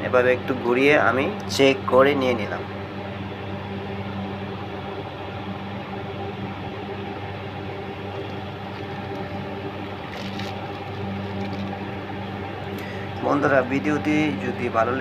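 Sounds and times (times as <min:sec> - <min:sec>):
electric machine hum: 0:00.0 - 0:15.0.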